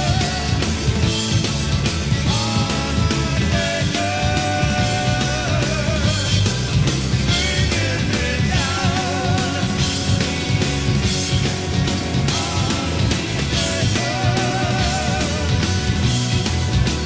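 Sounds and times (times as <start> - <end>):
bass guitar: 0.0 - 17.0
drums: 0.0 - 17.0
electric guitar: 0.0 - 17.0.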